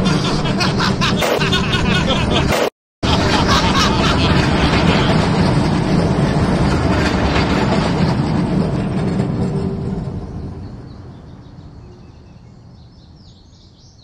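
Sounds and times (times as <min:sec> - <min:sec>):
streetcar rolling on rails: 0:00.0 - 0:14.0.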